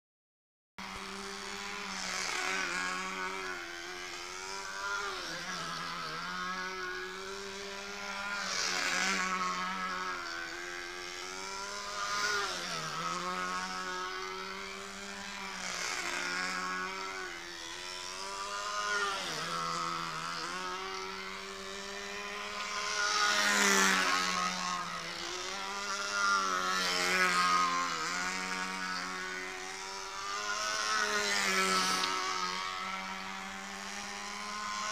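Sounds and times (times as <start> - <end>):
model plane engine running: 0.8 - 34.9.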